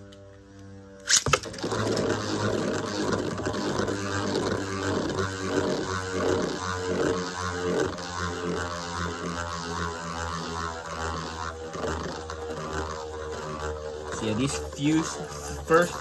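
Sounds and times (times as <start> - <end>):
spinning tops whirring: 0.9 - 16.0.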